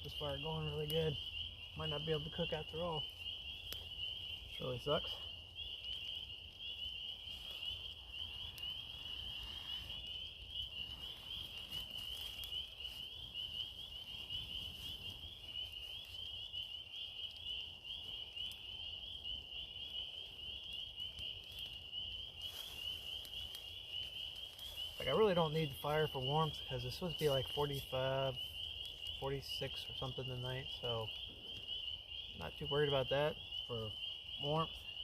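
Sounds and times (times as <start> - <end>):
frogs trilling: 0.0 - 35.0.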